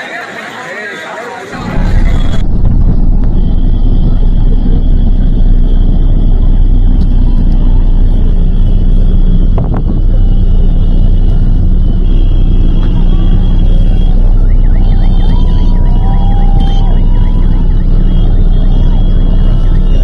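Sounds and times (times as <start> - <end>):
bus engine and road rumble: 0.0 - 20.0
faint high whine: 1.5 - 20.0.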